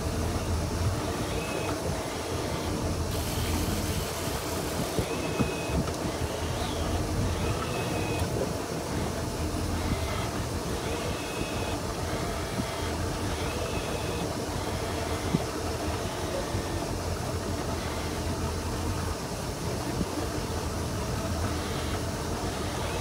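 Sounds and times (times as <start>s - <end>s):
boat engine humming: 0.0s - 23.0s
water noise: 0.0s - 23.0s.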